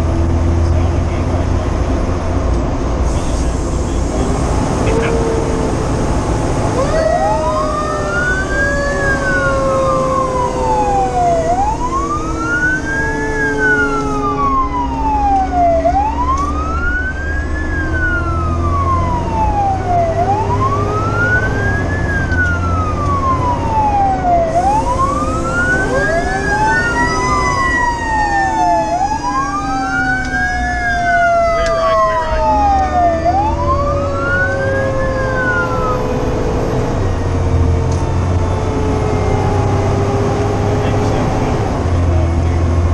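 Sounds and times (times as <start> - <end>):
truck engine rumbling: 0.0 - 42.9
electronic siren wailing: 3.7 - 41.0
mechanical siren winding up and down: 4.2 - 41.0.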